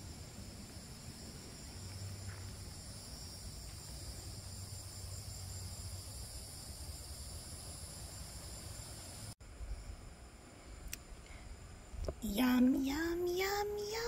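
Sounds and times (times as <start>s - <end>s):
insect chorus trilling: 0.0s - 10.4s, 11.4s - 14.0s.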